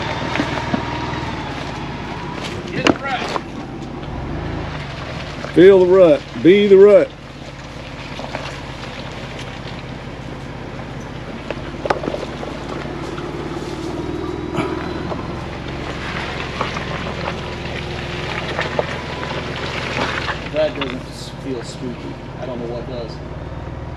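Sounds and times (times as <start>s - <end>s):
car engine at low revs: 0.0s - 23.9s.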